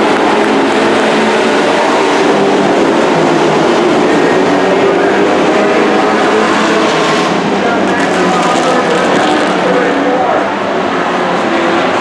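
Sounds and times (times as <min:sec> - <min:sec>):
race truck engines at speed: 0:00.0 - 0:12.0.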